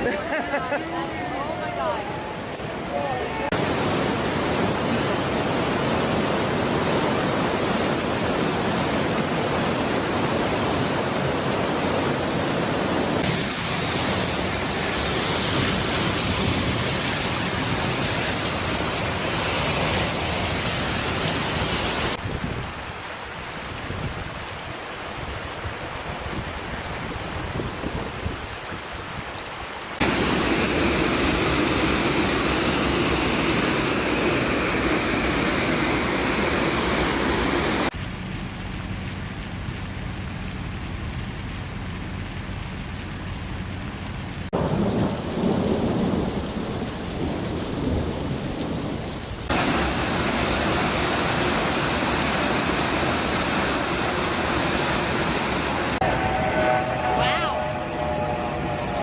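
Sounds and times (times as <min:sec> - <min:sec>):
rushing floodwater: 0:00.0 - 0:38.0, 0:38.9 - 0:59.0
heavy rain: 0:00.0 - 0:59.0.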